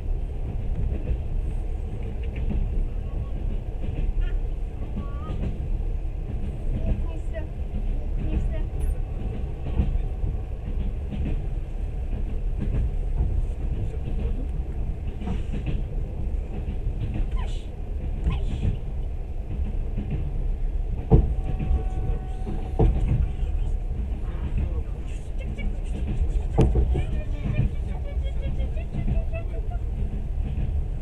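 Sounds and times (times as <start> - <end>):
clicks and knocks of train: 0.0 - 31.0
train wheels rumbling on track: 0.0 - 31.0.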